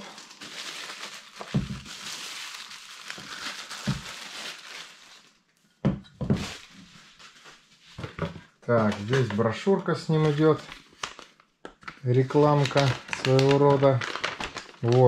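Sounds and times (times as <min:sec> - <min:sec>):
plastic film crinkling: 0:00.0 - 0:05.4, 0:06.4 - 0:07.9, 0:08.6 - 0:15.0.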